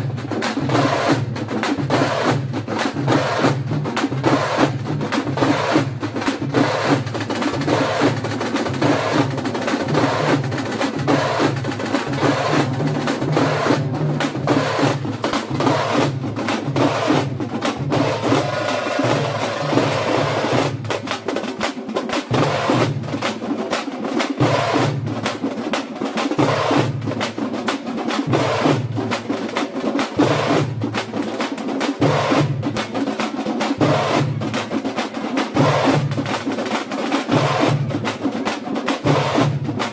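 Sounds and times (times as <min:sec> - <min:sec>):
frame drums beaten with sticks: 0:00.0 - 0:39.9.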